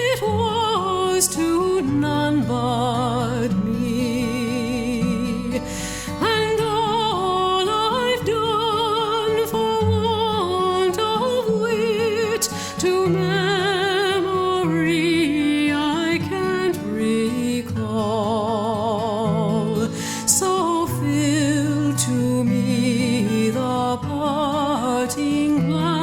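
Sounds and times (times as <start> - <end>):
solo voice singing with vibrato: 0.0 - 26.0.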